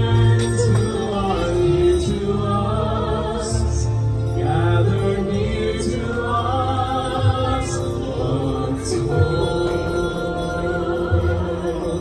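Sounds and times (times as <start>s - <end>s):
backing track music: 0.0s - 12.0s
person singing with vibrato: 0.0s - 12.0s.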